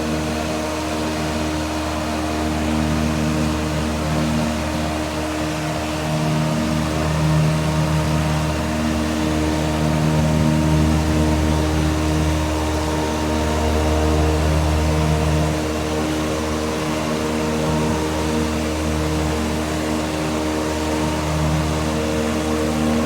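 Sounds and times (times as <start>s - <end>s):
electric fan running: 0.0s - 23.0s.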